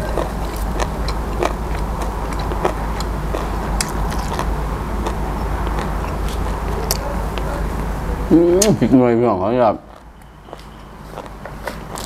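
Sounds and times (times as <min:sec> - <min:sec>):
person chewing with mouth clicks: 0:00.0 - 0:07.9, 0:09.9 - 0:12.0
steady low hum: 0:00.0 - 0:12.0.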